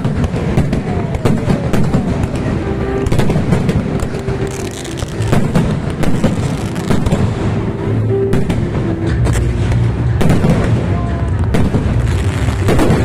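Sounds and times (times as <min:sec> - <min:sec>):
fireworks cracking: 0:00.0 - 0:13.0
low rumble: 0:00.0 - 0:13.0.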